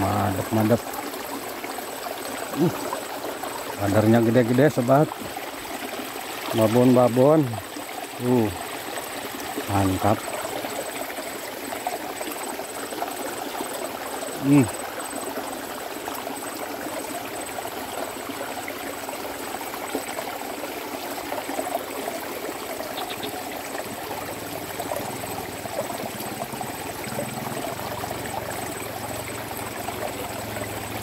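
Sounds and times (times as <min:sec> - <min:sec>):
stream water trickling: 0:00.0 - 0:31.0.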